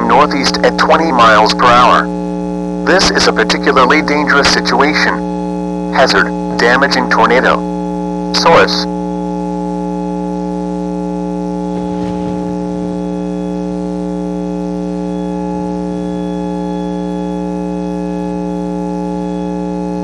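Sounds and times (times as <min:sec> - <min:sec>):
electronic buzzing drone: 0:00.0 - 0:20.0.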